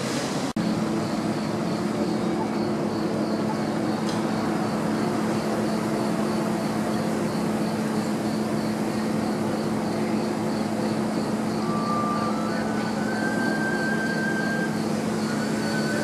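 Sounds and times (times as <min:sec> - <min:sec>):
steady droning hum: 0:00.5 - 0:16.0
high cricket-like chirping: 0:00.6 - 0:16.0.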